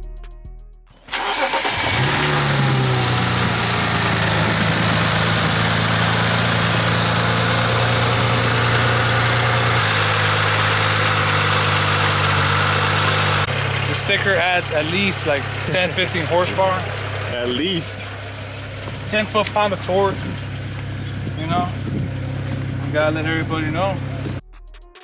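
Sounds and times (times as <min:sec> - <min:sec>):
car engine starting and idling: 0:00.9 - 0:24.4.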